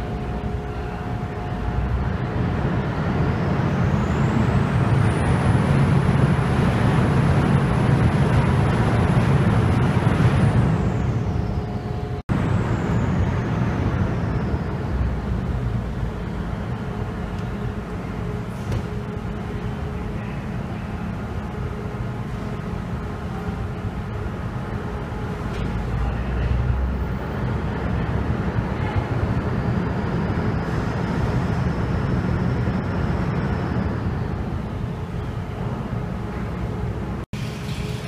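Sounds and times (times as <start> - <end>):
ferry diesel engines rumbling: 0.0 - 38.0
high whine: 0.0 - 38.0.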